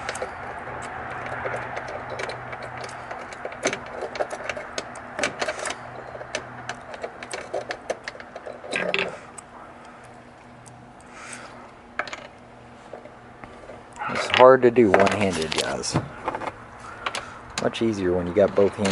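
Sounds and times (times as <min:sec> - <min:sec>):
hardware clicks and rattles: 0:00.0 - 0:18.9.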